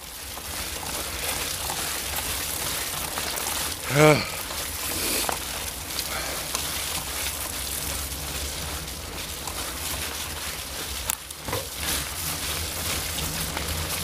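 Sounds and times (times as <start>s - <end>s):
tyres rolling on wet dirt: 0.0s - 14.0s.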